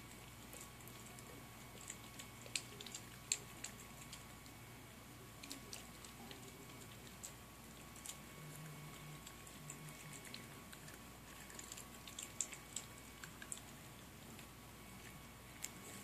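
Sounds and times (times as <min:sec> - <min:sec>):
puppy crunching dry kibble: 0:00.0 - 0:04.7, 0:05.3 - 0:16.0.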